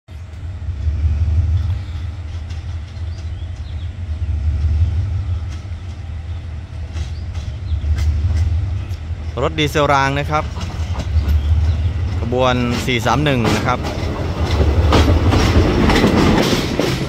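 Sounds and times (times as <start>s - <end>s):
diesel train rumbling: 0.1s - 17.0s.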